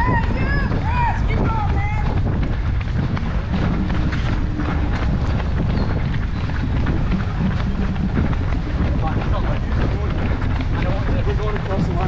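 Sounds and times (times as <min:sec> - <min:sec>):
footfalls on pavement: 0:00.0 - 0:12.0
wind buffeting microphone: 0:00.0 - 0:12.0.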